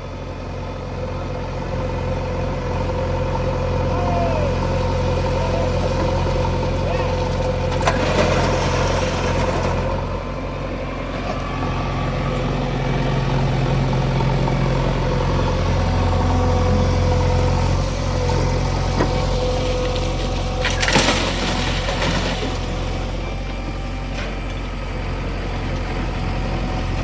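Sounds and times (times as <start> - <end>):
heavy machinery diesel engine running: 0.0 - 27.0.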